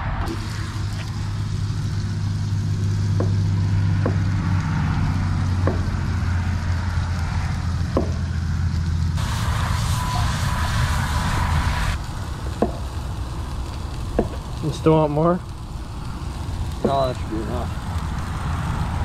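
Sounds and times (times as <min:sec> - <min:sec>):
low engine hum: 0:00.0 - 0:19.0
food sizzling in a pan: 0:00.4 - 0:19.0.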